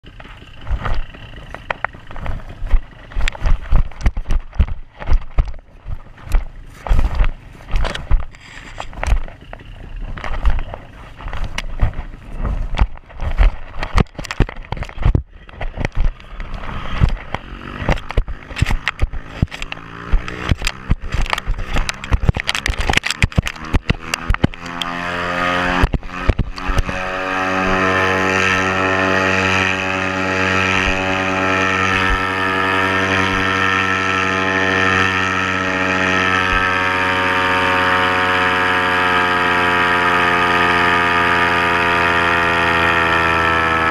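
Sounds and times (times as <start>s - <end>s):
paramotor engine running: 0.0s - 43.9s.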